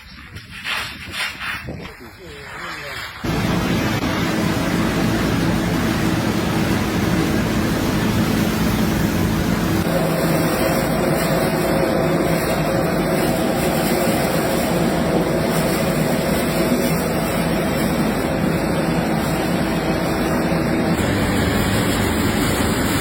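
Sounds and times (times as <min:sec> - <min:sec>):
factory machinery humming: 0:03.2 - 0:23.0.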